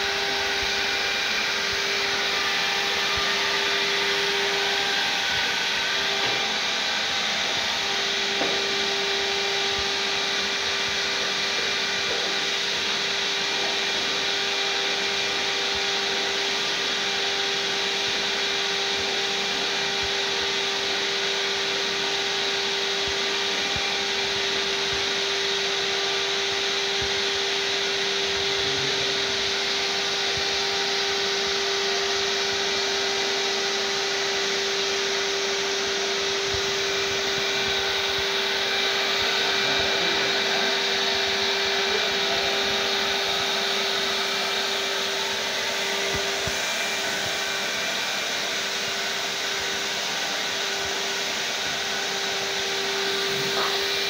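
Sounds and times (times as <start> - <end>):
vacuum cleaner humming: 0.0 - 54.0
vacuum floor tool on carpet: 0.0 - 54.0.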